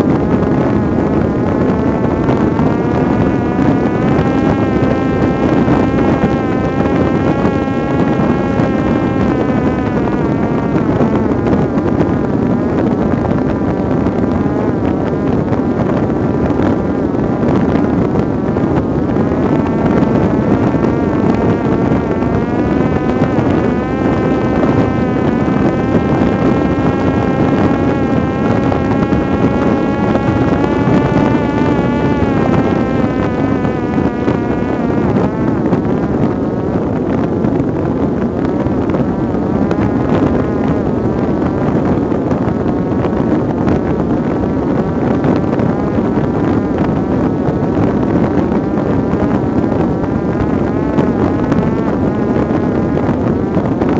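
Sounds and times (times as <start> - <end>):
drone motor and propeller whine: 0.0 - 53.9
wind rushing: 0.0 - 53.9.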